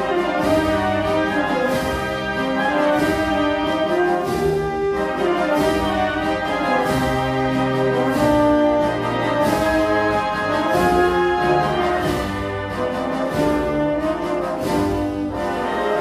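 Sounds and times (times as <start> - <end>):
wind band playing slow march: 0.0 - 16.0.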